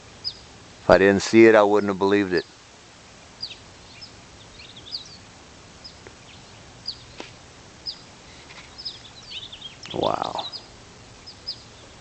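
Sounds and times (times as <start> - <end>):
faint background hiss: 0.0 - 12.0
small birds chirping: 0.0 - 12.0.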